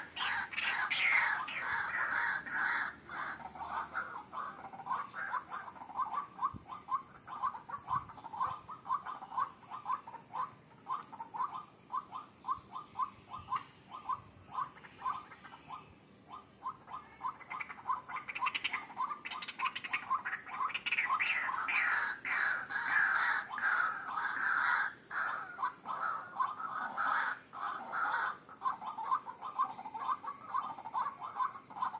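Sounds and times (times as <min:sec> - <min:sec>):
waterhen calling: 0:00.0 - 0:31.9.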